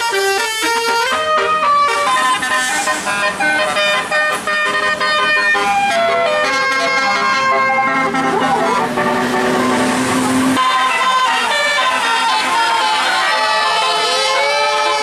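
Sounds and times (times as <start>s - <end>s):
bus musical horn playing a tune: 0.0s - 15.0s.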